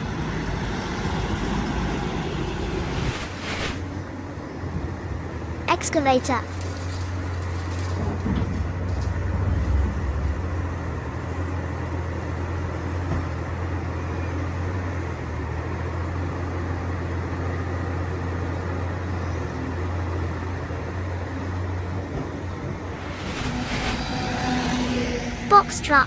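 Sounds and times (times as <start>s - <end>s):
diesel engine low rumble: 0.0s - 26.0s.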